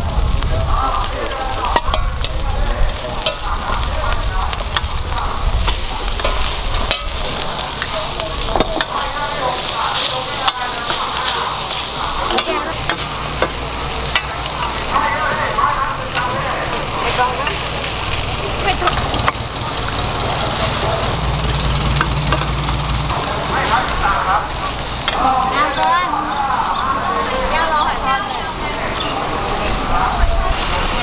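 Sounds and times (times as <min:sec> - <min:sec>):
frying sizzle: 0:00.0 - 0:31.0.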